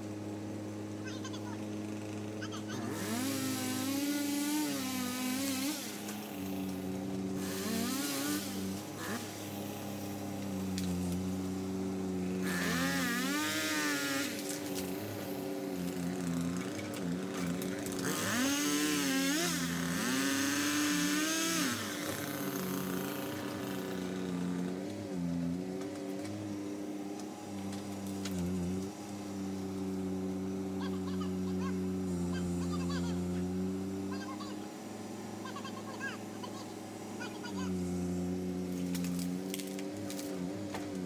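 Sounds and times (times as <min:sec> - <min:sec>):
chainsaw revving and cutting: 0:00.0 - 0:41.0
engine running steadily: 0:00.0 - 0:41.0.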